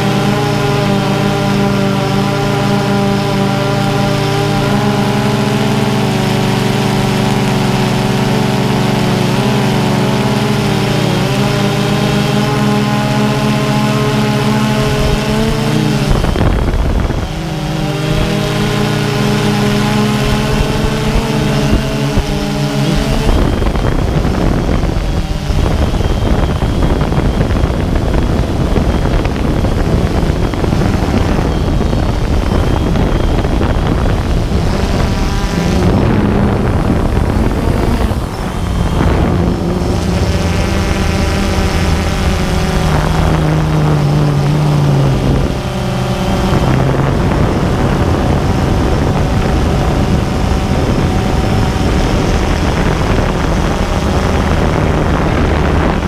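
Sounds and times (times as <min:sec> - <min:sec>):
drone motors and propellers: 0:00.0 - 0:56.0
wind rush on microphone: 0:00.0 - 0:56.0.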